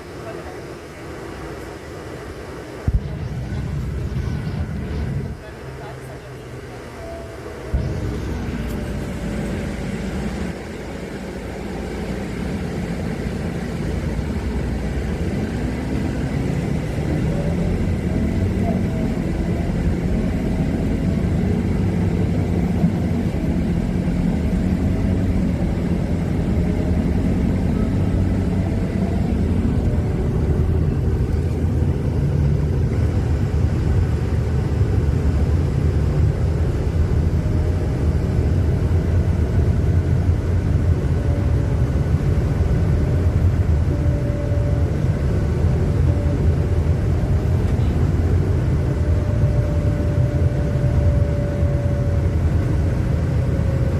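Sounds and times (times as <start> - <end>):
faint whine: 0.0 - 53.9
road noise: 0.0 - 53.9
vehicle engine rumble: 0.0 - 53.9.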